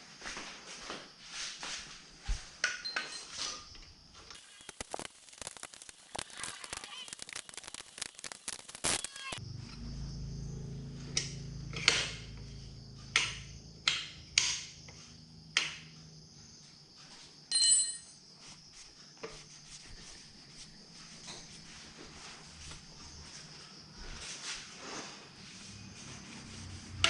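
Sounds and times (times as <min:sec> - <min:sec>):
insect chirr: 0:00.0 - 0:27.0.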